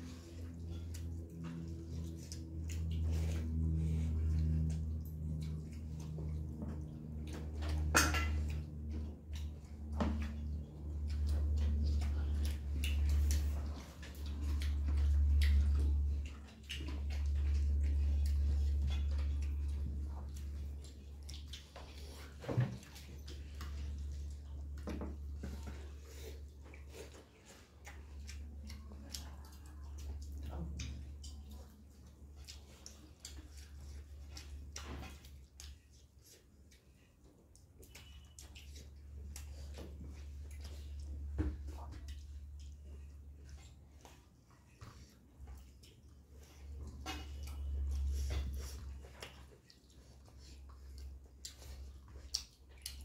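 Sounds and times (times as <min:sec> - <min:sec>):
steady low hum: 0:00.0 - 0:53.0
wet chewing and lip smacks: 0:00.0 - 0:53.0.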